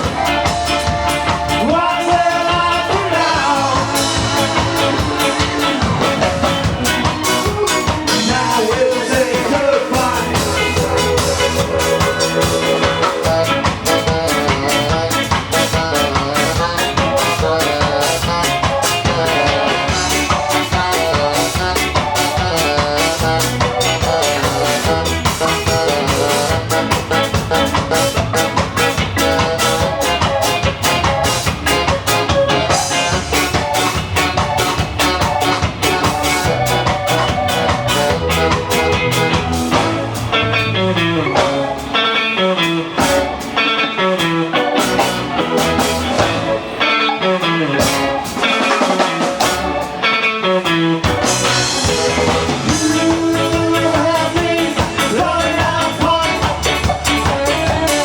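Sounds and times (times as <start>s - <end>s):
steady drum beat: 0.0s - 42.0s, 42.9s - 43.6s, 44.6s - 46.8s, 47.8s - 50.1s, 51.0s - 58.0s
ska band playing live: 0.0s - 58.0s.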